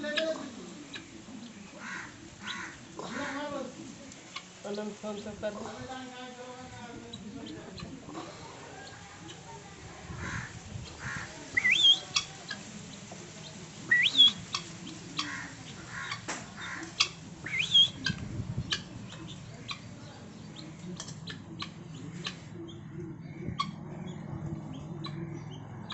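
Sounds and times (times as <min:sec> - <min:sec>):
guineafowl squawking: 0:00.0 - 0:05.8, 0:06.9 - 0:25.9.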